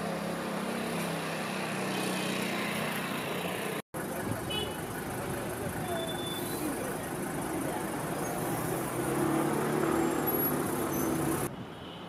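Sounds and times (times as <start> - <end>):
vehicle engine hum: 0.0 - 11.5.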